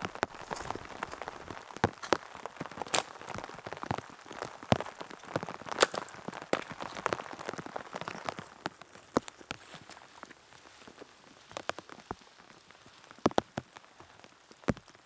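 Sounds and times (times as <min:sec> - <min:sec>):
rain on a tarp: 0:00.0 - 0:15.0.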